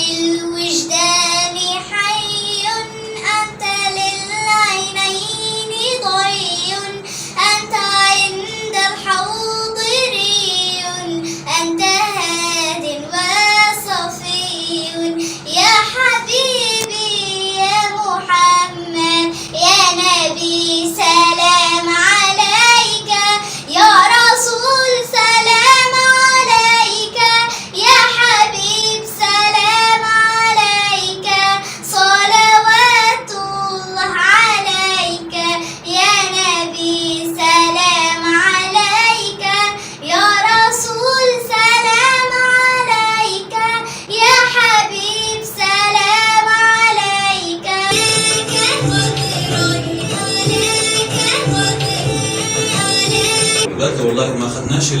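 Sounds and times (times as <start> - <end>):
girl singing solo: 0.0 - 53.7.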